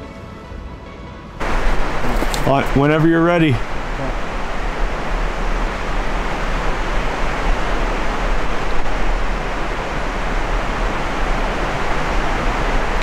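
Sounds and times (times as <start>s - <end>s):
outdoor rushing noise: 1.4s - 13.0s.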